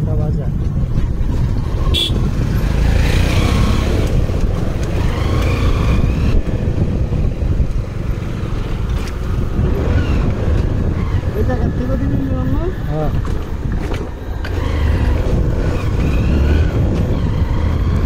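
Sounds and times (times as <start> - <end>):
wind rumble on microphone: 0.0 - 18.0
motorcycle engine running: 0.2 - 18.0.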